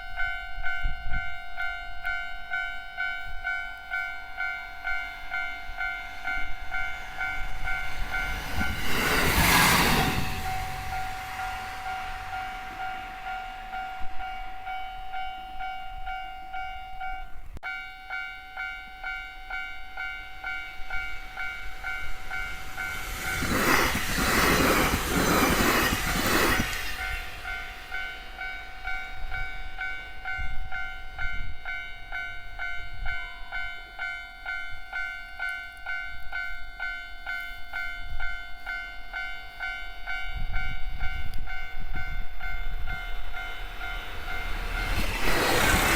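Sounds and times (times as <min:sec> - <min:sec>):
level-crossing warning bell: 0:00.0 - 0:45.9
train passing: 0:00.0 - 0:45.9.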